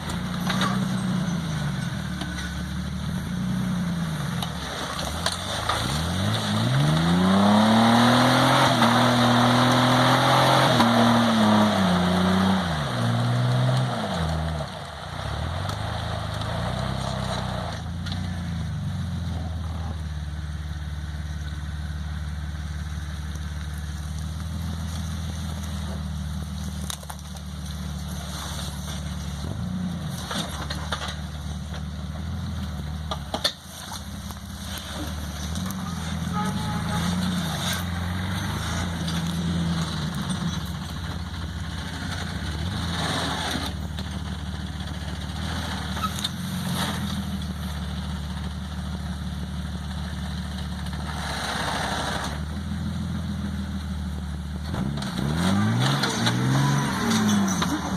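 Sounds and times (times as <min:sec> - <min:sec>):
engine revving: 0:00.0 - 0:33.2, 0:34.1 - 0:57.9.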